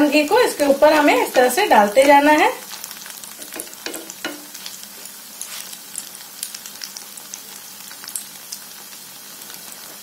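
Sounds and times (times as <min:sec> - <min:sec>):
batter deep-frying with sizzle: 0:00.0 - 0:10.0.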